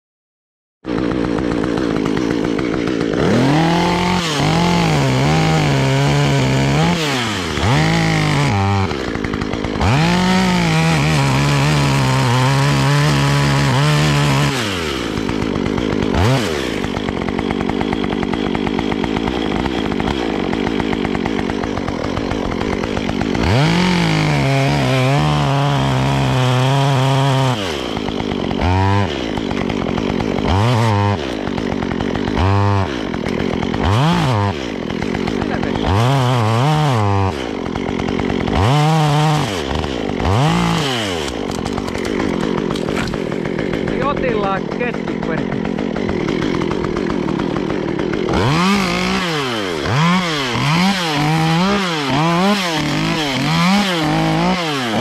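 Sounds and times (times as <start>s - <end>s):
chainsaw revving and cutting: 0.8s - 55.0s.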